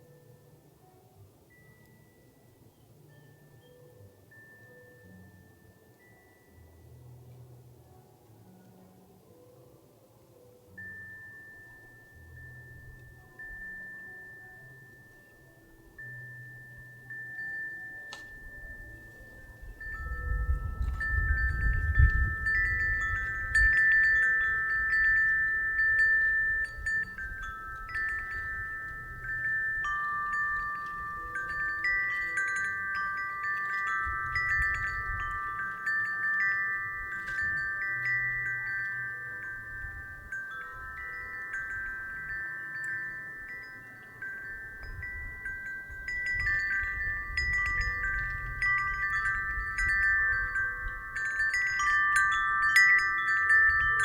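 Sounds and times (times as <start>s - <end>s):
wind chimes ringing: 0.0s - 54.0s
low wind rumble: 10.6s - 54.0s.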